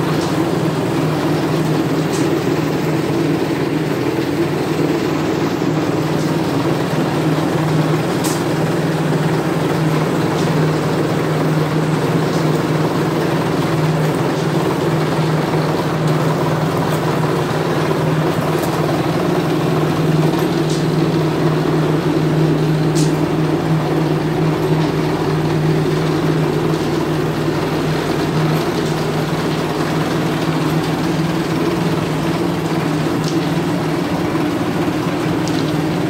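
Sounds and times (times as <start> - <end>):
sizing machine motor drone: 0.0 - 36.0.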